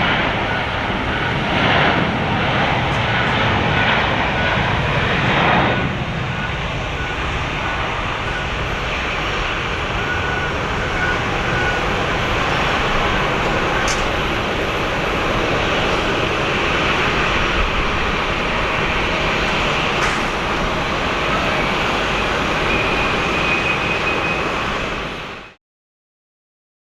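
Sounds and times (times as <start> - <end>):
jet engine noise: 0.0 - 25.6.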